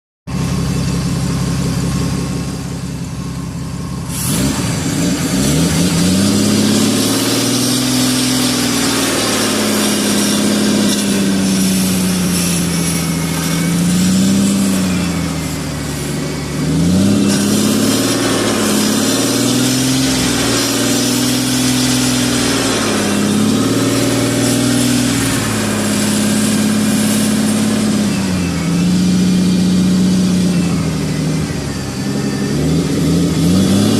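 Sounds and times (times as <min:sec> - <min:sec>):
car engine idling and revving: 0:00.3 - 0:33.9.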